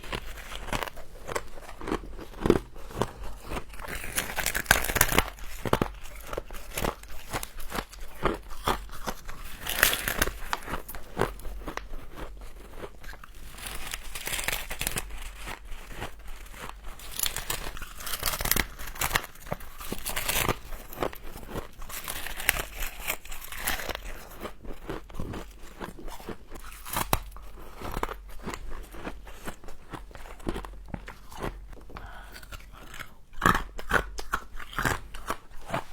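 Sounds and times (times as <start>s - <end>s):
chewing frost: 0.0s - 35.9s.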